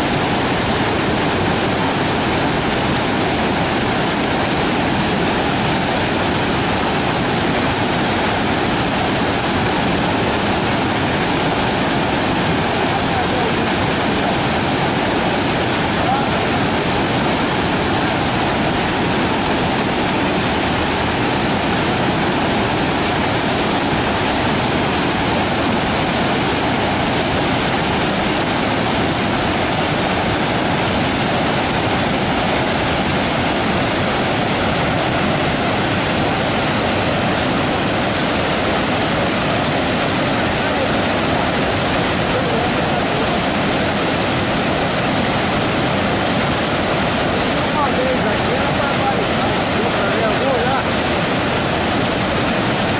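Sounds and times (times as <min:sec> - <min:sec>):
waterfall roaring: 0:00.0 - 0:52.9.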